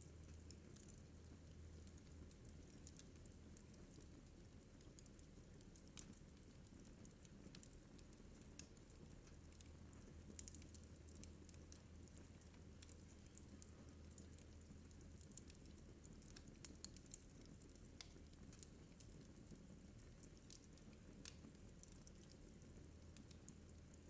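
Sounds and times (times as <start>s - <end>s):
wood fire crackling: 0.1s - 24.0s.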